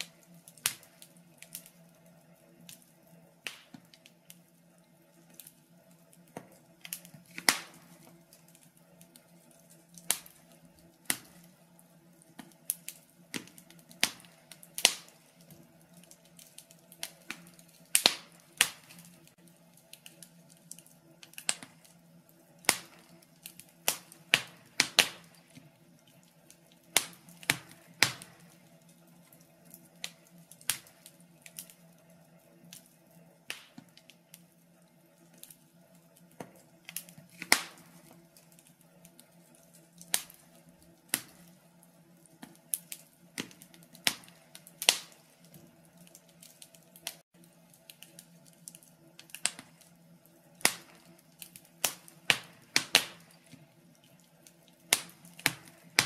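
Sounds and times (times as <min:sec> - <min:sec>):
faint steady hum: 0:00.0 - 0:56.0
wood fire crackling: 0:00.0 - 0:56.0.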